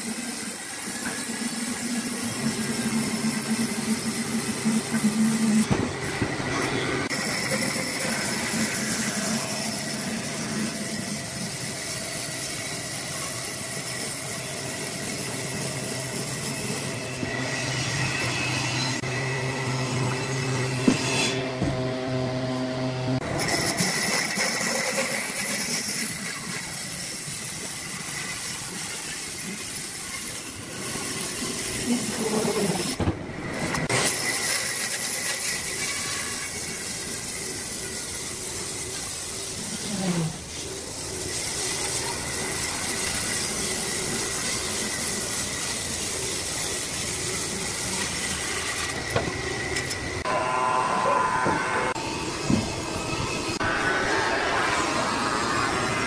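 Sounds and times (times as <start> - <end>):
wood lathe cutting wood: 6.6 - 33.0, 33.7 - 56.0.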